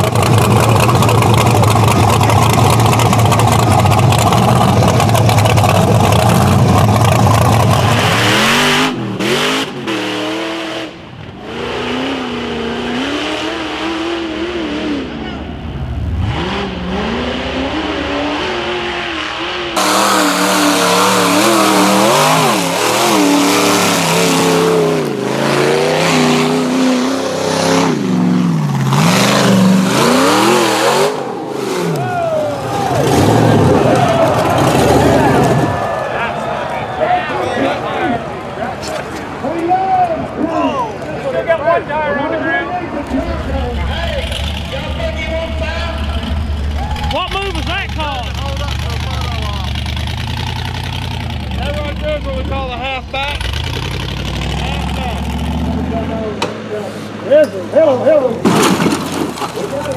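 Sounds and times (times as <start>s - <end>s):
buggy engine revving: 0.0s - 36.4s, 42.9s - 59.9s.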